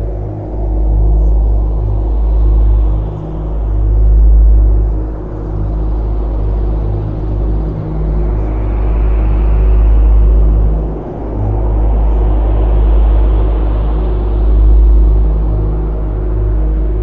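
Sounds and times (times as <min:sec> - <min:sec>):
deep droning rumble: 0:00.0 - 0:17.0.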